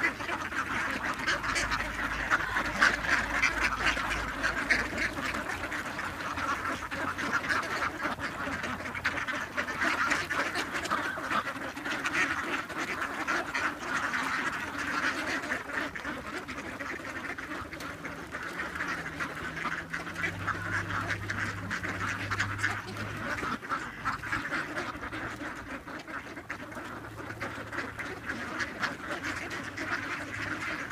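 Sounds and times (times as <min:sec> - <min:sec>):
ducks quacking in chorus: 0:00.0 - 0:30.9.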